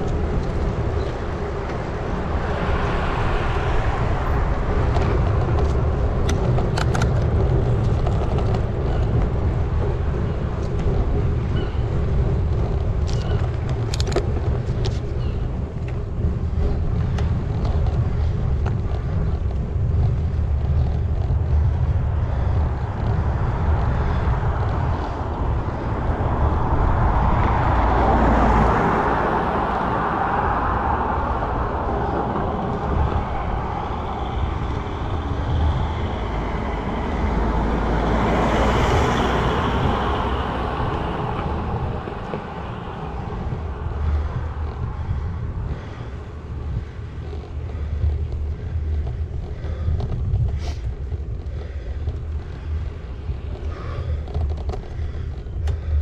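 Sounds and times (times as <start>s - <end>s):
vehicle passing: 0.0s - 56.0s
wind buffeting microphone: 0.0s - 56.0s.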